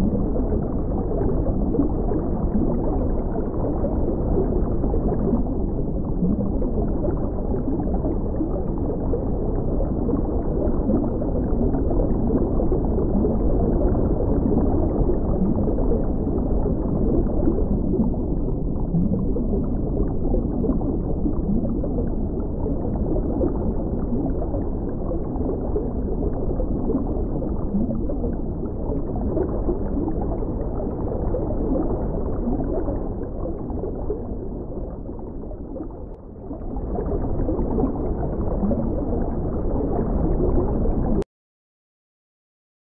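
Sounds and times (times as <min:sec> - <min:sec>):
muffled underwater rumble: 0:00.0 - 0:41.2
faint low bubbling: 0:00.0 - 0:41.3.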